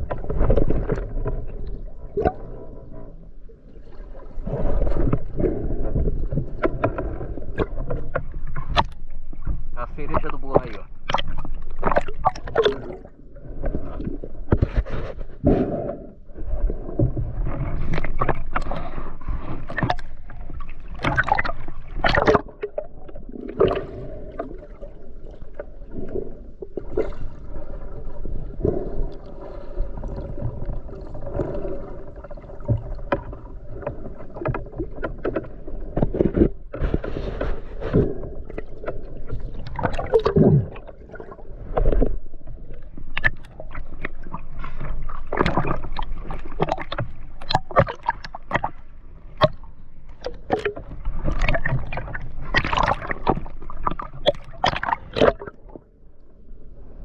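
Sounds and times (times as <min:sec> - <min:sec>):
water splashing and gurgling: 0:00.0 - 0:57.0.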